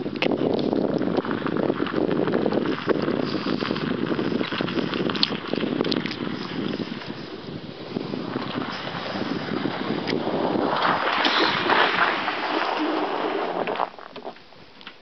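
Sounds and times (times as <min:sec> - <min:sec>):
tyres on packed snow: 0:00.4 - 0:14.4.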